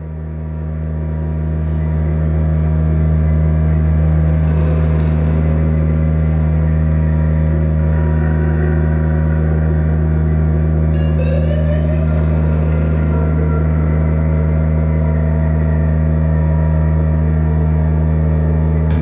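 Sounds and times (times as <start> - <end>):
drone music with deep hum: 0.0 - 19.0.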